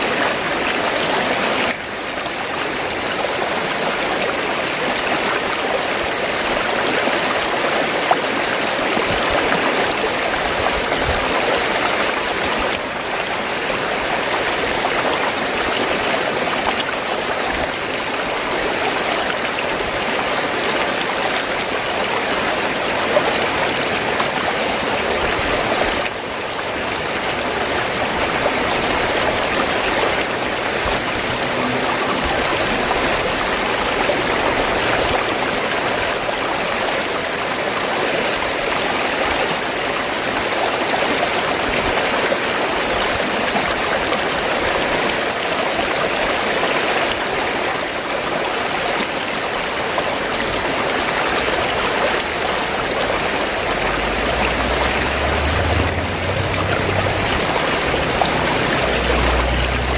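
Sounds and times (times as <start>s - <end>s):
fast-flowing water gurgling: 0.0s - 59.9s.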